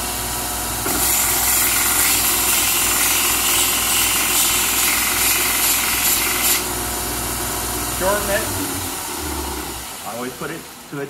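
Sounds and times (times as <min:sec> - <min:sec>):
belt sander motor running: 0:00.8 - 0:10.3.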